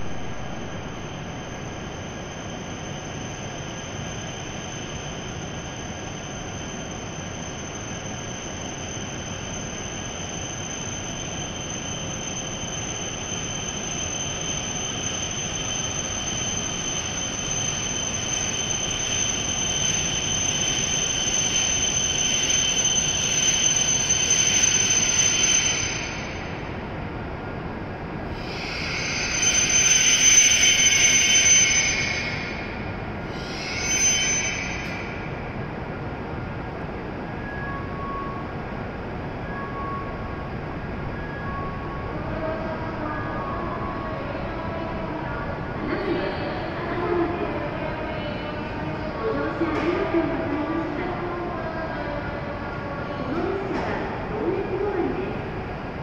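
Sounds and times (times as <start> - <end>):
high-pitched whine: 0.0 - 56.0
train running noise: 0.0 - 56.0.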